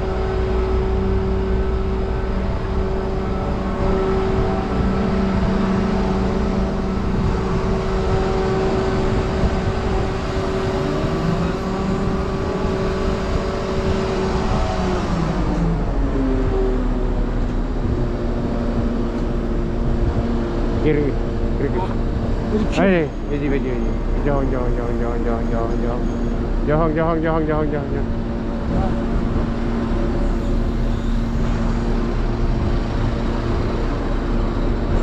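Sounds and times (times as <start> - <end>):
crane diesel engine running: 0.0 - 35.0.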